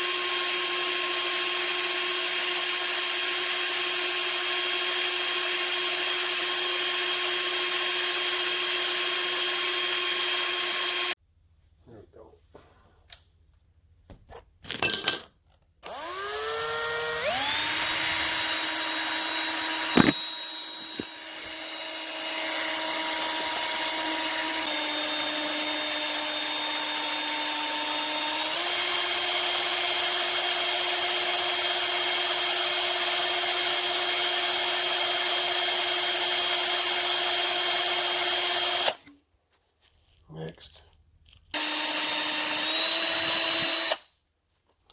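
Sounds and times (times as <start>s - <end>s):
electric drill whining: 0.0s - 11.2s, 15.8s - 39.0s, 41.5s - 44.1s.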